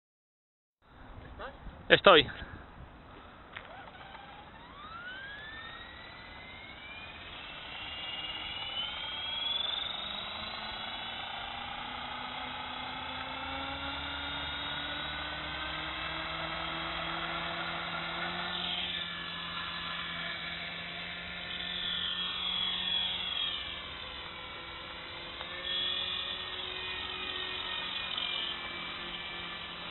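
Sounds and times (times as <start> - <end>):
low hum: 0.9 - 29.9
model helicopter rotor whine: 3.4 - 29.9.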